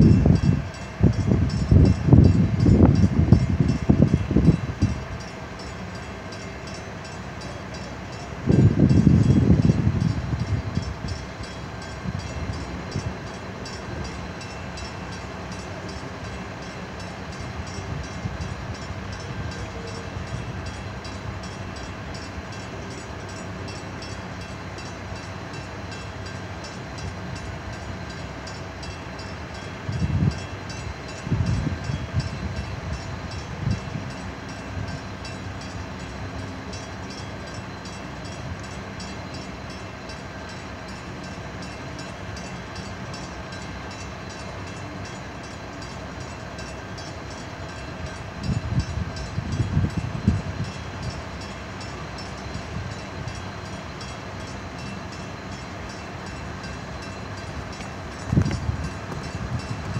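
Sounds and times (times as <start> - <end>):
drawbridge machinery rumbling: 0.0 - 59.9.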